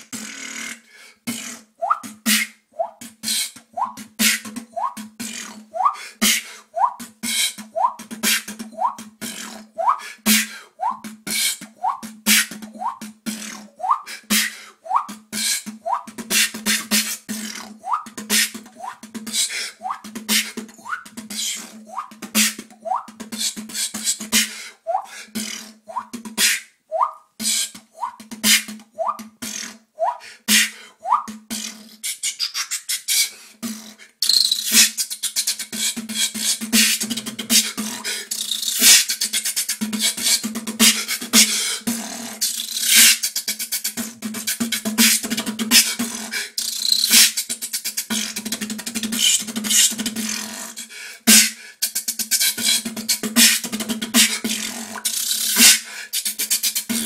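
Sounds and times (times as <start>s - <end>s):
beatboxing: 0.0s - 57.0s.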